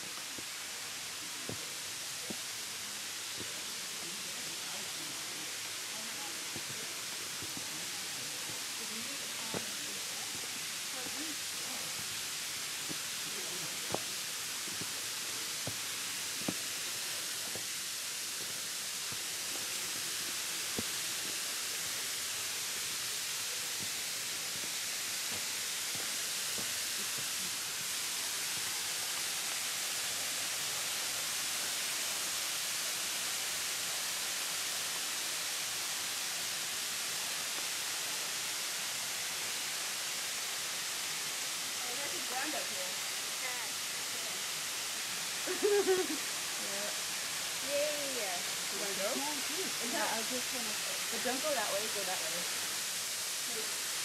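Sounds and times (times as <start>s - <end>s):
waterfall splashing into pool: 0.0s - 54.0s.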